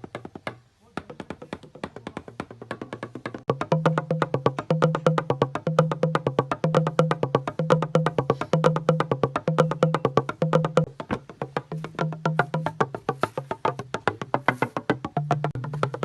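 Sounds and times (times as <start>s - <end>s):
fast wooden knocks: 0.0s - 16.0s.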